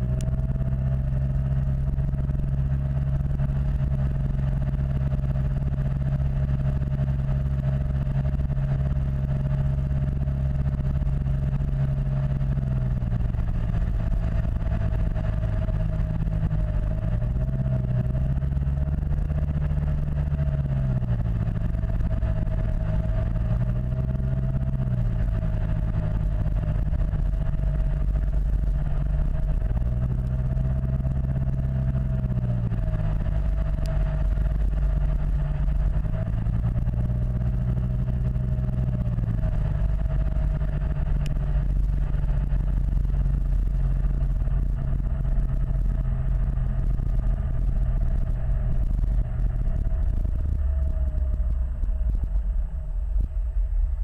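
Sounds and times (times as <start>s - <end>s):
thin steady whine: 0.0s - 54.0s.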